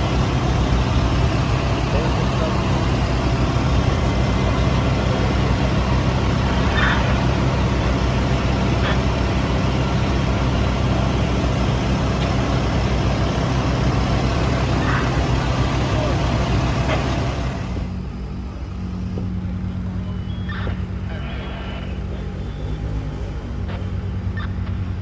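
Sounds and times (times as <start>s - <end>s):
fire truck diesel engines droning: 0.0s - 25.0s.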